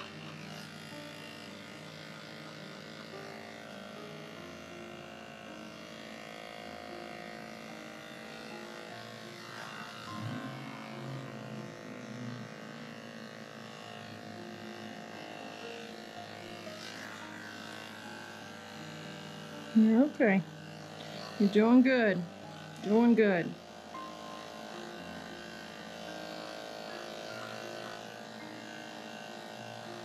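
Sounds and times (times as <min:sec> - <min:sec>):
electric clippers humming: 0:00.0 - 0:30.0.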